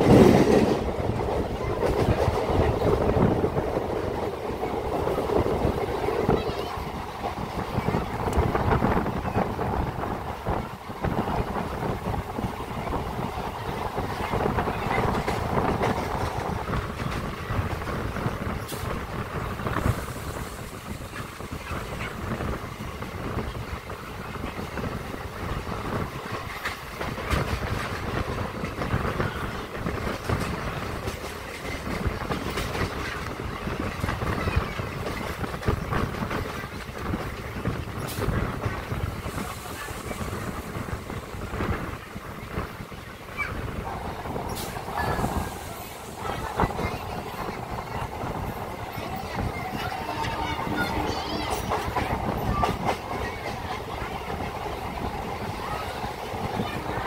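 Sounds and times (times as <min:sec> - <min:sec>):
train wheels rumbling on rail: 0:00.0 - 0:57.0
wheels clacking over rail joints: 0:00.0 - 0:57.0.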